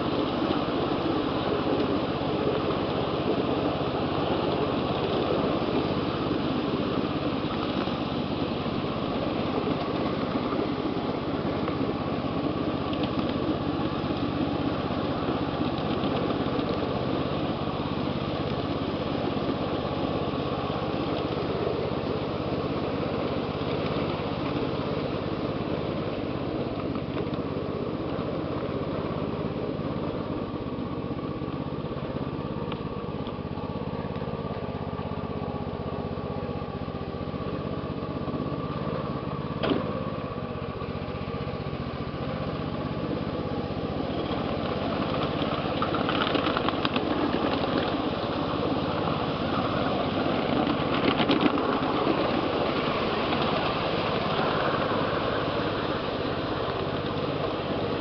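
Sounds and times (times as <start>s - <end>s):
miniature train running on rails: 0.0s - 41.4s, 42.4s - 58.0s.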